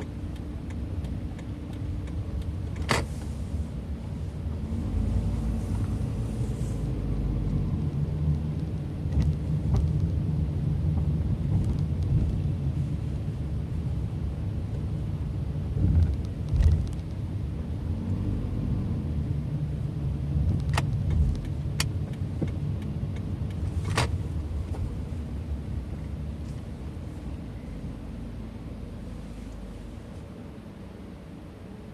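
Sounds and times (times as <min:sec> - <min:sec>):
car engine and tyre rumble: 0:00.0 - 0:31.9.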